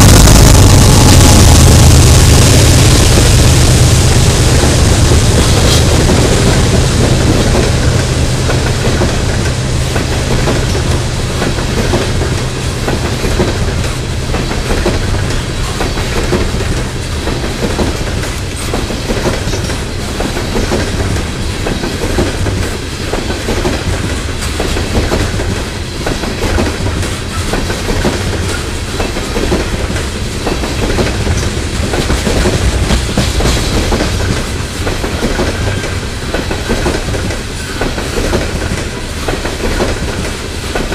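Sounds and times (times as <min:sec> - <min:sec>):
steel wheels rumbling on rails: 0:00.0 - 0:40.9.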